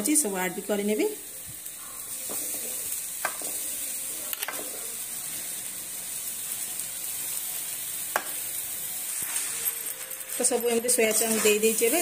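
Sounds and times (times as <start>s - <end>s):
spices sizzling in a pan: 0.0s - 12.0s.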